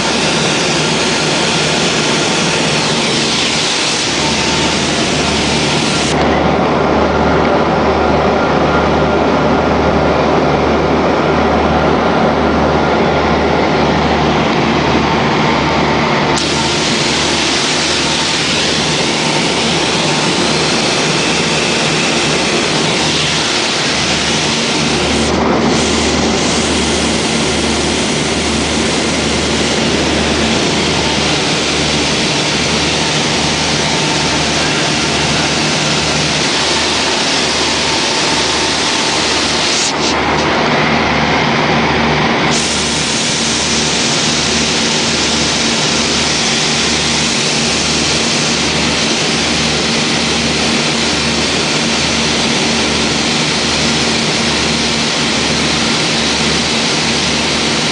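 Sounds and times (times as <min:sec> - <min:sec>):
propeller engines droning: 0:00.0 - 0:57.9.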